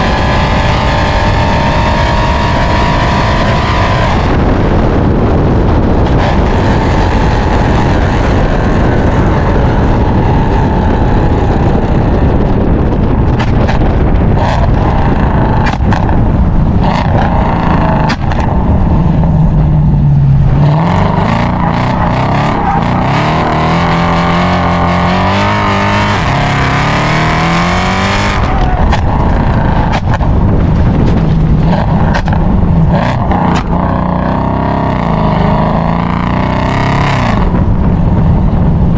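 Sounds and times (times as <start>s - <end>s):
car engine driving loudly: 0.0s - 38.9s
exhaust pops and crackles: 2.6s - 36.2s.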